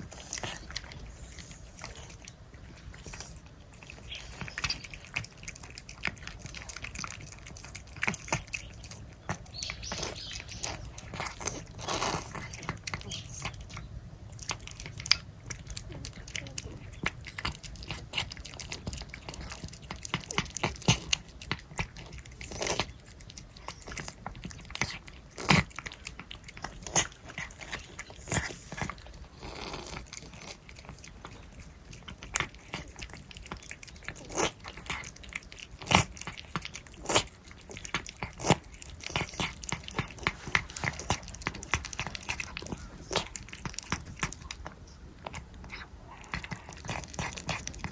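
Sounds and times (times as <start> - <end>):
cats licking and chewing: 0.0 - 47.9.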